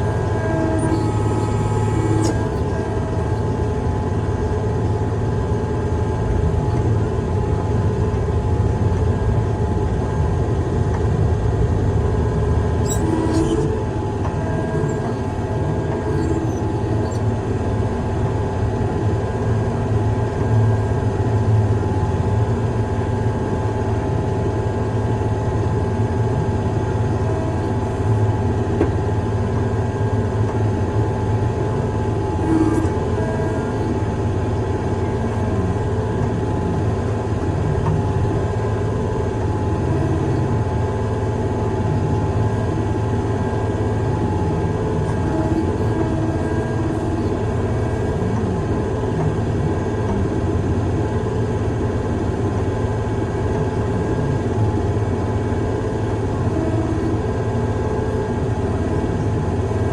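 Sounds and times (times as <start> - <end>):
steady machine whine: 0.0 - 59.9.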